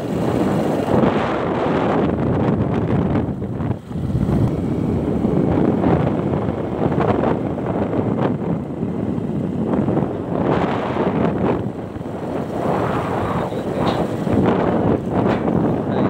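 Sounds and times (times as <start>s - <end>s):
wind buffeting phone microphone: 0.0s - 16.0s.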